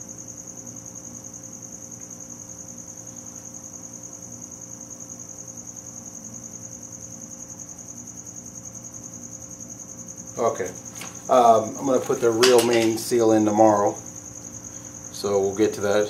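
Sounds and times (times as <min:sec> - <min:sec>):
cricket chirping: 0:00.0 - 0:16.0
faint electrical hum: 0:00.0 - 0:16.0.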